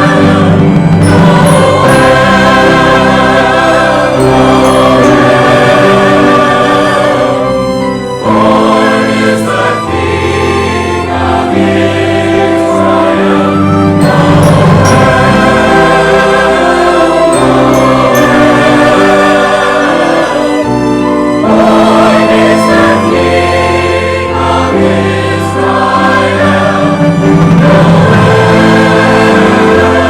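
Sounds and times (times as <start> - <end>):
church choir singing: 0.0 - 30.0
orchestral accompaniment: 0.0 - 30.0.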